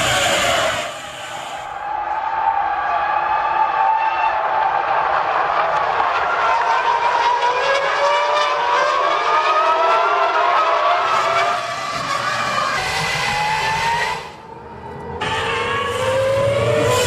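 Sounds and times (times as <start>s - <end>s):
racing car engines accelerating: 0.0s - 1.6s, 4.7s - 17.0s.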